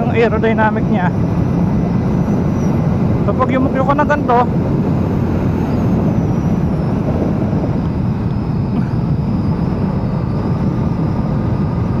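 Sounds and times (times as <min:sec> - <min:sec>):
motorcycle engine cruising: 0:00.0 - 0:12.0
wind rush: 0:00.0 - 0:12.0.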